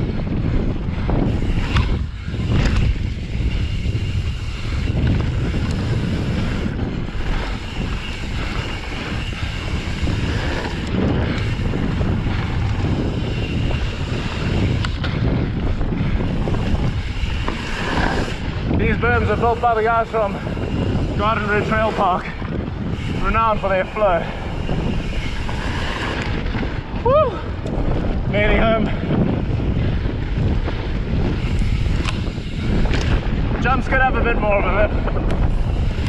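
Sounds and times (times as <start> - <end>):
bike knocking and rattling: 0.0 - 36.0
bike tyres rumbling on dirt: 0.0 - 36.0
wind on microphone: 0.0 - 36.0.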